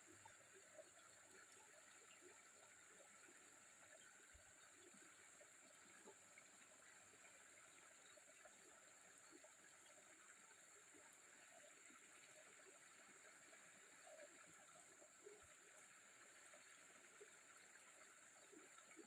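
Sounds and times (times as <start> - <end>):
faint small water sounds: 0.0 - 19.0.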